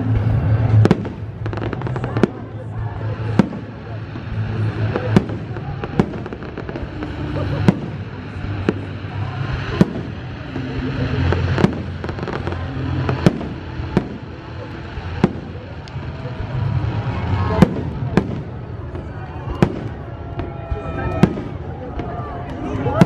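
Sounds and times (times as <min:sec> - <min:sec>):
fireworks bursting: 0:00.0 - 0:23.0
low rumble: 0:00.0 - 0:23.0.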